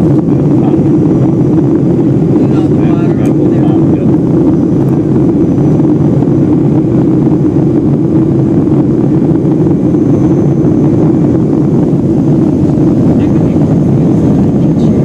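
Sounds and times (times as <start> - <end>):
jet engines and airflow rumbling: 0.0 - 15.0.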